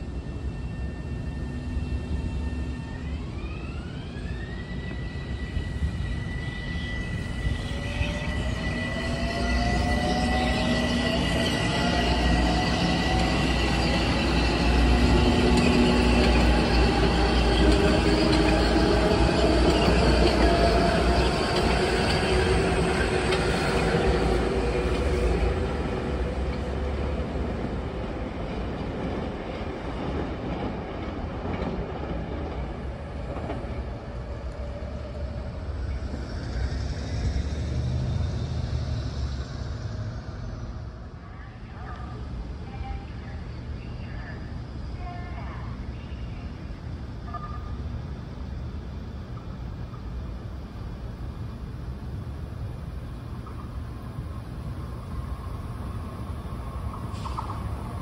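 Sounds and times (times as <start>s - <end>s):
faint train whine: 0.0s - 58.0s
train wheels rumbling on rails: 3.4s - 58.0s.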